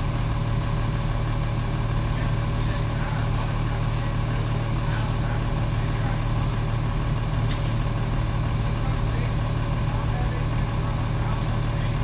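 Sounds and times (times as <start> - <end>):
tow truck engine idling: 0.0 - 12.0.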